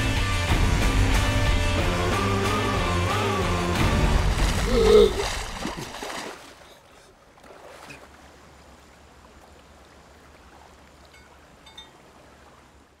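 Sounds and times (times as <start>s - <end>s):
faint water ambience: 0.0s - 13.0s.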